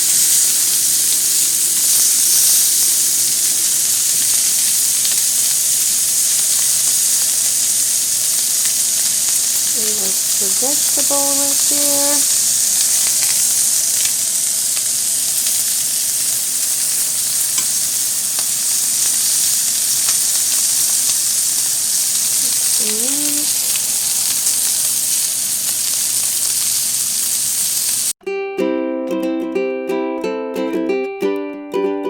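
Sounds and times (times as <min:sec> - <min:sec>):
food sizzling on a grill: 0:00.0 - 0:28.2.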